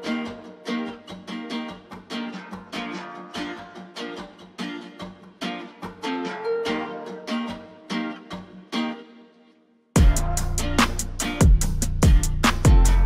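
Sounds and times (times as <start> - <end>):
plucked guitar melody: 0.0 - 13.0.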